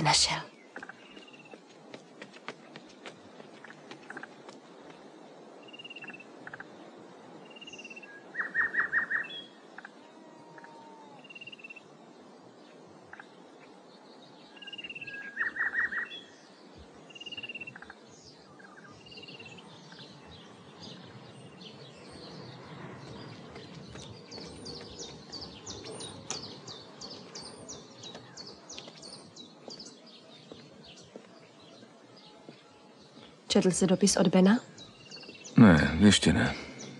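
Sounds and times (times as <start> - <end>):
birds chirping and twittering: 0.0 - 36.9.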